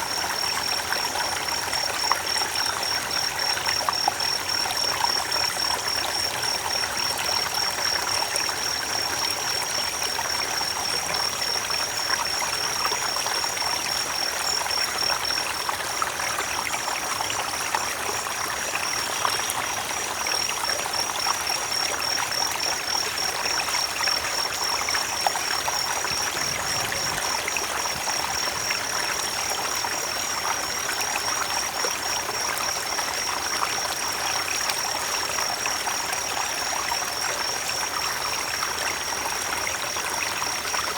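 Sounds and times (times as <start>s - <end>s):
creek water over stones: 0.0s - 40.9s.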